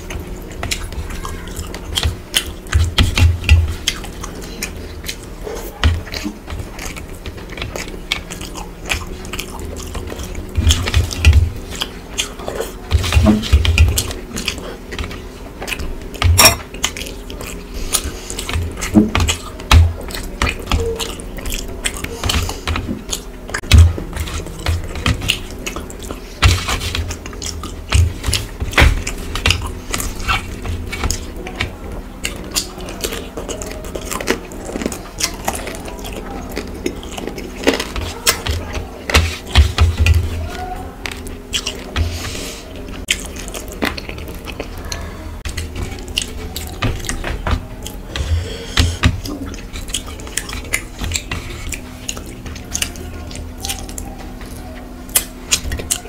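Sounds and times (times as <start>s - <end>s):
wet chewing and mouth smacks: 0.0s - 56.0s.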